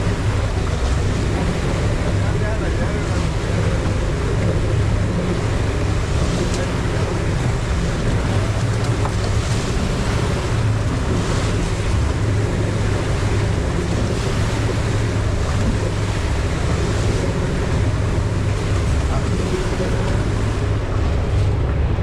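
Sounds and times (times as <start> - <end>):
boat engine droning: 0.0 - 22.0
water rushing: 0.0 - 22.0.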